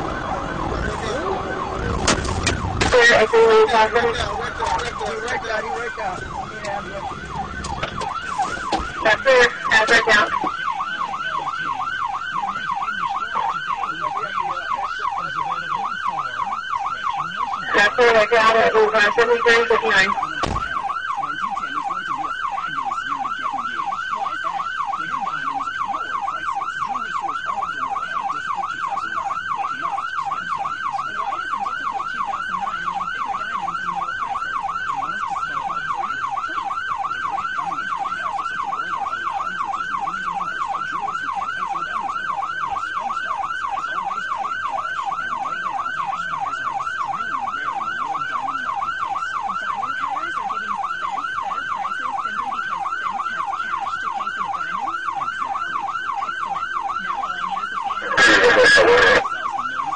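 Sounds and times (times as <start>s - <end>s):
police siren yelping: 0.0s - 59.9s.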